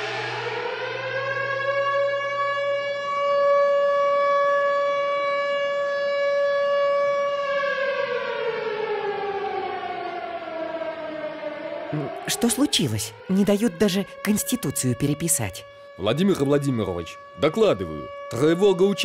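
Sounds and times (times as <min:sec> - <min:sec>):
air-raid siren wailing: 0:00.0 - 0:19.0.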